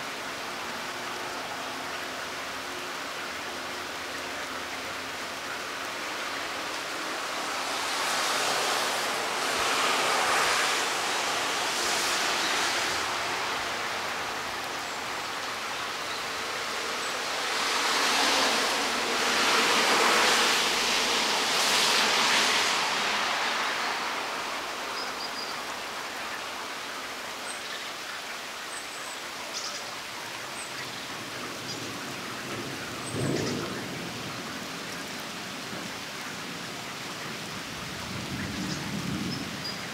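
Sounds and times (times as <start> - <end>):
steady rain hiss: 0.0 - 39.9
vehicles swishing past on wet road: 0.4 - 39.9.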